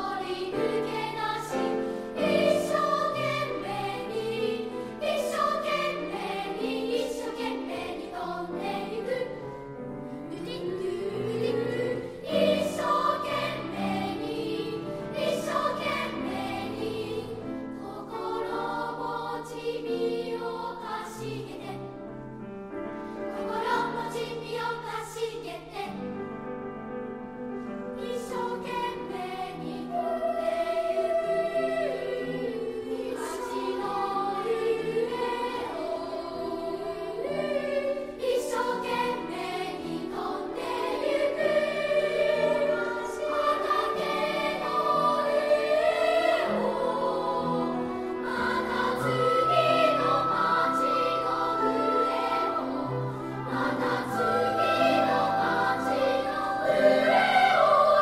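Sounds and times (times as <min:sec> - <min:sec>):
children's choir singing: 0:00.0 - 0:26.5, 0:27.9 - 0:58.0.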